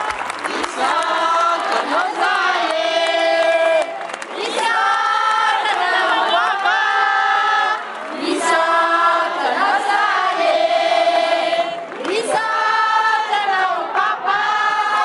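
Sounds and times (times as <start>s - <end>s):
crowd singing: 0.4s - 15.0s.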